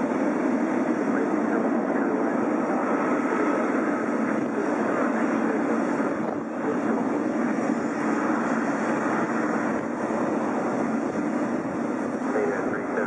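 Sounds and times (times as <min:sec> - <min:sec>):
jet airliner engines rushing: 0:00.0 - 0:13.0.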